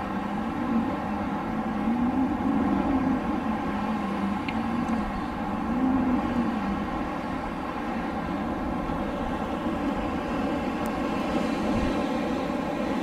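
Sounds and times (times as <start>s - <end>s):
faint wavering howl: 0.0s - 13.0s
rushing wind: 0.0s - 13.0s.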